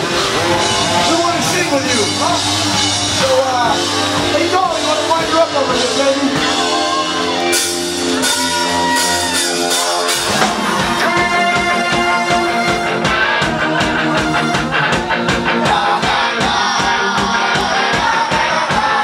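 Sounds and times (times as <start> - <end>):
bass guitar: 0.0 - 19.0
drum kit: 0.0 - 19.0
electric guitars: 0.0 - 19.0.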